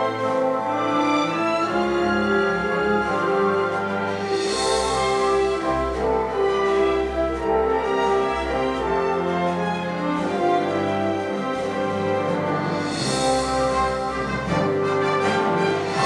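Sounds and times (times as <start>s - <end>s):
slow orchestral music: 0.0s - 16.0s.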